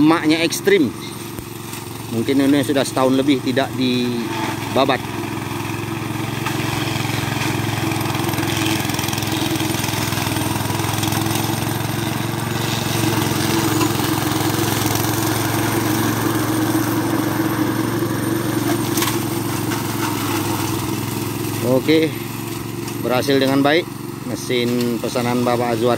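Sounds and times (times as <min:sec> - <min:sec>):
blade cutting brush: 0:00.0 - 0:25.9
brush cutter engine running: 0:00.0 - 0:25.9.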